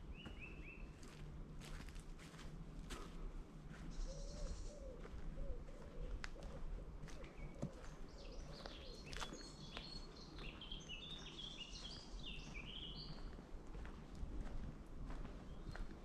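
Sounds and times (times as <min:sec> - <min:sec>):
footsteps on woodland path: 0:00.0 - 0:16.0
low background noise: 0:00.0 - 0:16.0.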